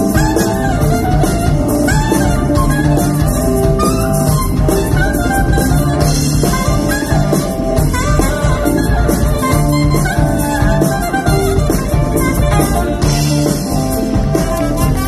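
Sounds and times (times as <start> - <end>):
bass guitar: 0.0 - 15.0
drum kit: 0.0 - 15.0
saxophone: 0.0 - 15.0
trumpet: 0.0 - 15.0.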